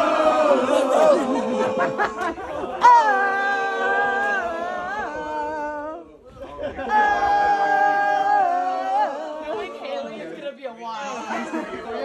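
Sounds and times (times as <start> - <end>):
guests chattering and laughing: 0.0 - 12.0.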